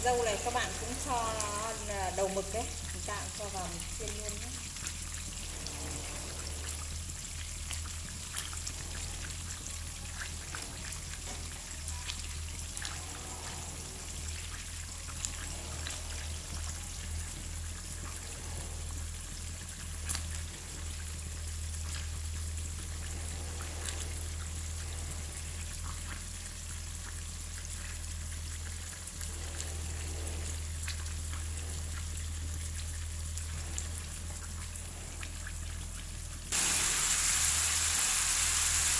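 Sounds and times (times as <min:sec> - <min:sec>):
low steady hum: 0:00.0 - 0:38.9
squid sizzling in oil: 0:00.0 - 0:38.9.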